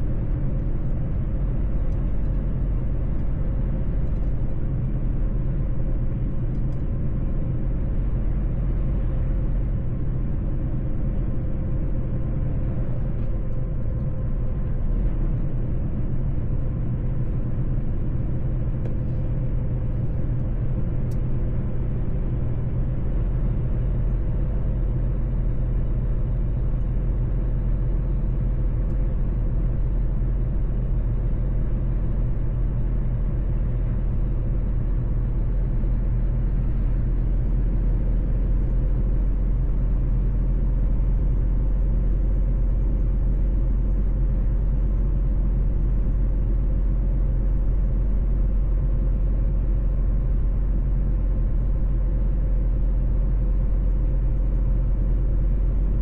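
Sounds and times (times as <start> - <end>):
faint steady hum: 0.0 - 56.0
truck engine and road rumble: 0.0 - 56.0.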